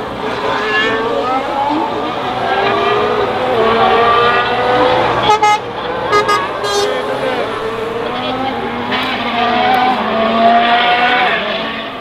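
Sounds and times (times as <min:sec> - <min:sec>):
racing car engine at speed: 0:00.0 - 0:12.0.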